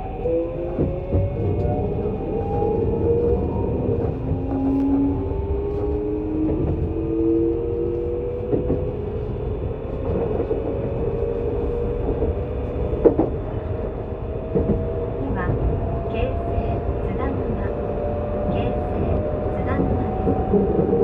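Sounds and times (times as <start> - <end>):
wheel-on-rail rumble: 0.0 - 21.0.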